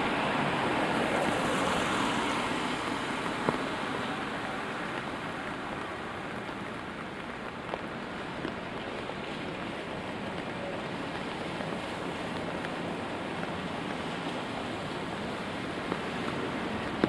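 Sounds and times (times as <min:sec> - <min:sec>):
car tyres hissing on wet road: 0:00.0 - 0:17.0
steady rain: 0:00.0 - 0:17.0.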